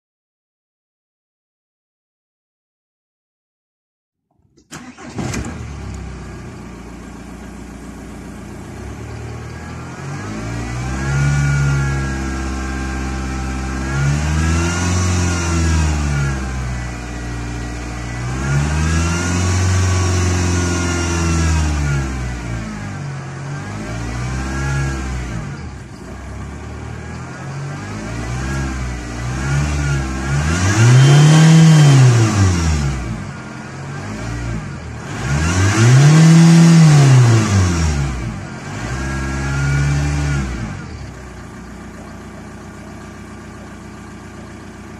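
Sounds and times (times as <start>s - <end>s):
car engine revving: 4.7s - 42.7s.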